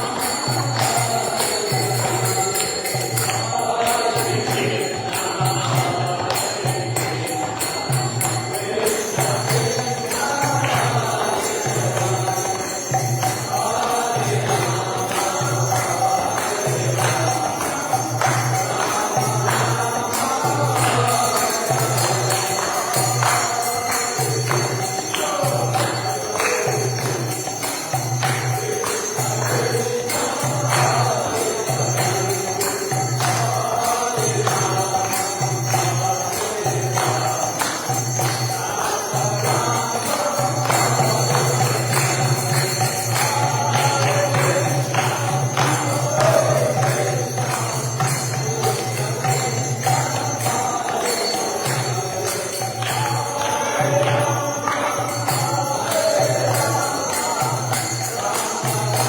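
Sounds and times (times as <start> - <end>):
group chanting: 0.0 - 59.0
jingling hand cymbals: 0.0 - 59.0.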